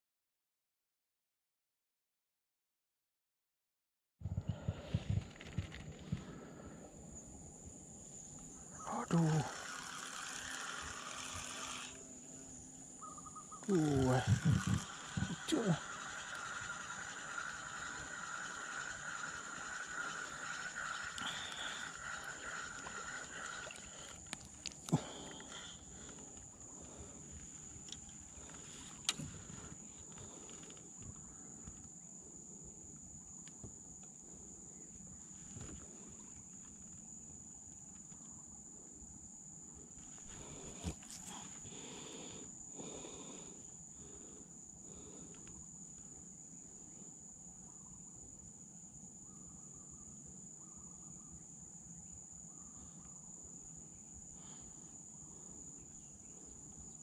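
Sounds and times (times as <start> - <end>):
high-pitched insect drone: 5.1 - 57.0.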